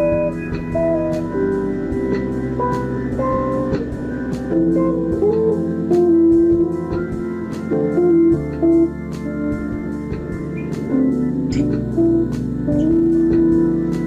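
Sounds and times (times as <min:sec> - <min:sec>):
bass line: 0:00.0 - 0:14.0
guitar melody with bending notes: 0:00.0 - 0:14.0
keyboard chords: 0:00.0 - 0:14.0.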